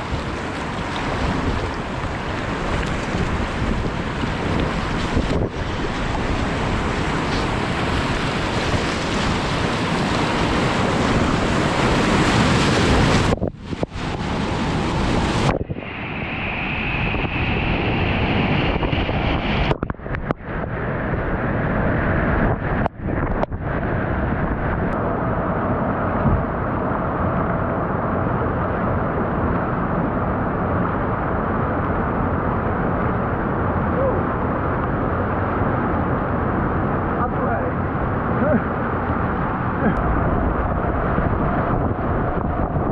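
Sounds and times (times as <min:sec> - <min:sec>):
whitewater rushing: 0:00.0 - 0:42.9
wind buffeting microphone: 0:00.0 - 0:42.9.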